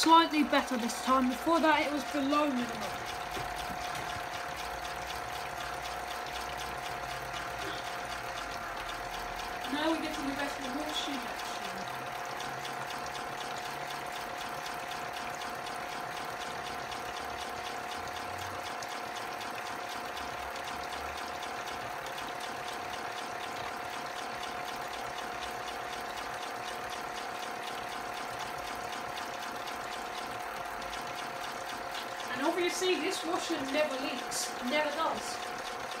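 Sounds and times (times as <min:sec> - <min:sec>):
toy washing machine motor whine: 0:00.0 - 0:36.0
water sloshing in drum: 0:00.0 - 0:36.0.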